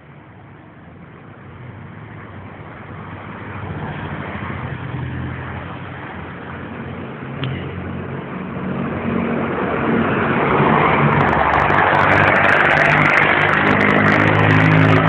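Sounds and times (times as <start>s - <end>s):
vehicle engine hum passing: 0.6s - 15.0s.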